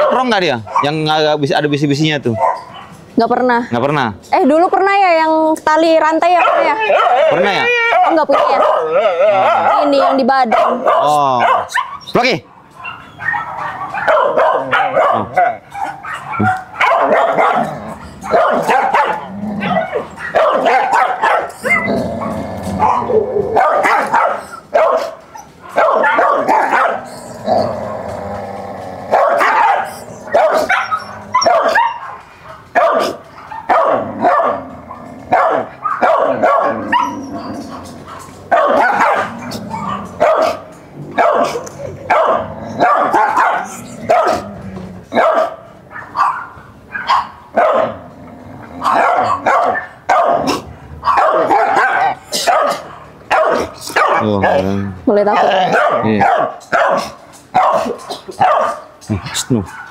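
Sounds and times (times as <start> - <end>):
dog barking: 0.0 - 1.1, 2.2 - 3.0, 6.2 - 12.1, 12.8 - 27.1, 29.1 - 44.5, 45.1 - 48.0, 48.8 - 59.9
dog drawn-out call: 6.3 - 12.1, 12.8 - 28.4, 29.1 - 48.0, 48.7 - 59.9.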